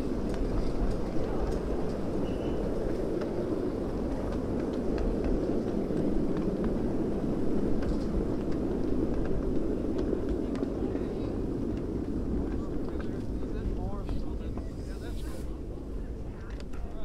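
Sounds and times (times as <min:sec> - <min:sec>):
miniature train rolling on track: 0:00.0 - 0:17.0.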